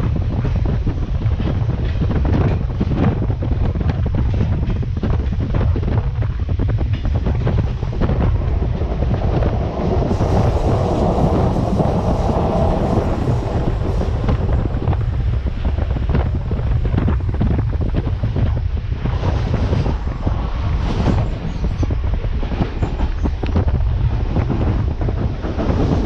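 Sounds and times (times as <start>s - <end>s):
train running: 0.0s - 26.0s
wind buffeting microphone: 0.0s - 26.0s.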